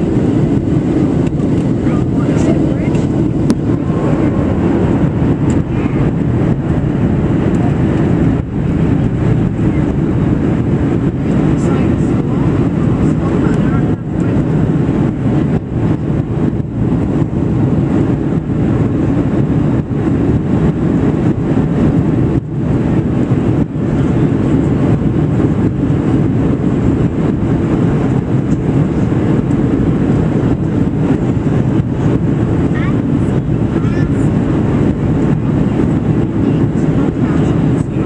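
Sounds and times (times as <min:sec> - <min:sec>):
air rushing past fuselage: 0:00.0 - 0:38.0
airliner engines rumbling: 0:00.0 - 0:38.0.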